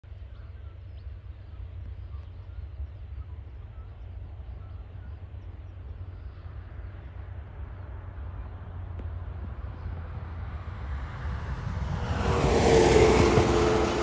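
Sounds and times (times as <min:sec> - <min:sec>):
distant freight train rumble: 0:00.0 - 0:14.0.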